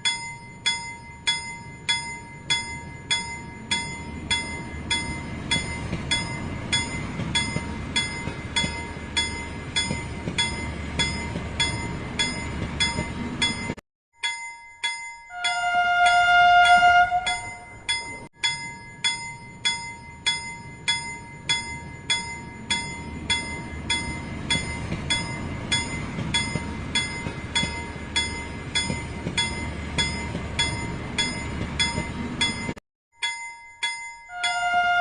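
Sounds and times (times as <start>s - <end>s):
toy train bell ringing: 0.0s - 35.0s.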